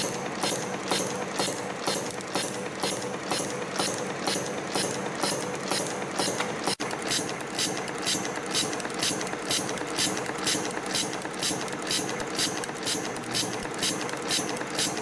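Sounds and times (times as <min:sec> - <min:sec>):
steady mechanical hum: 0:00.0 - 0:15.0
wire forming machine clattering: 0:00.0 - 0:15.0.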